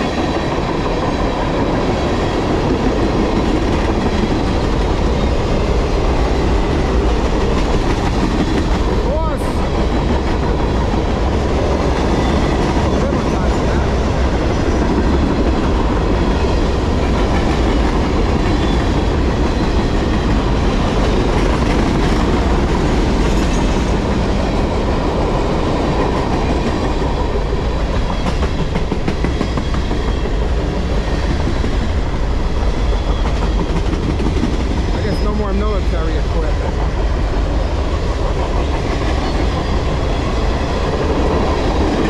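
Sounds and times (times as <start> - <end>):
freight train wheels on rails: 0.0 - 42.0.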